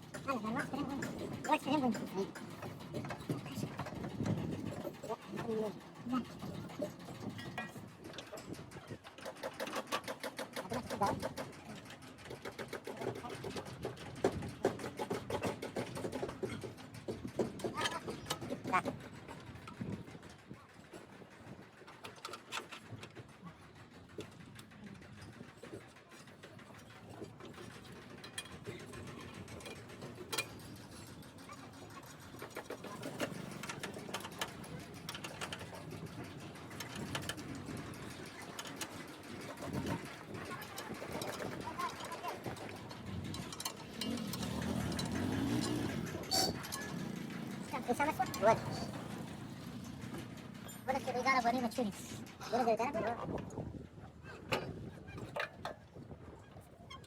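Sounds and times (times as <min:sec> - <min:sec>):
rapid mechanical clicking: 0:00.0 - 0:52.1.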